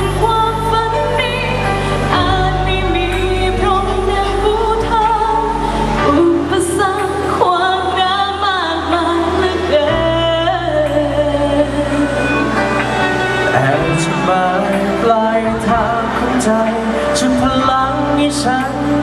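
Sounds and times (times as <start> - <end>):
woman singing: 0.0 - 12.9, 13.5 - 19.0
held bass notes: 0.0 - 19.0.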